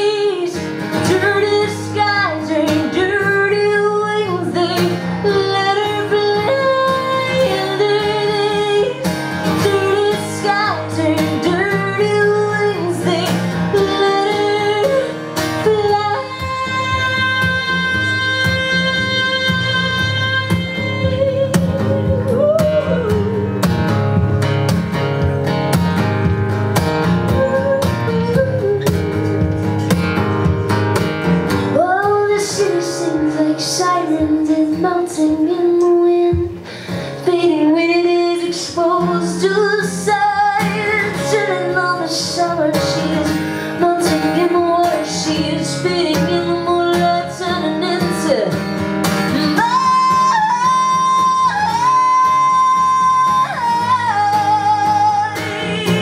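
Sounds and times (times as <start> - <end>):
woman singing: 0.0 - 24.0, 27.1 - 29.6, 31.5 - 56.0
acoustic guitar chords: 0.0 - 56.0.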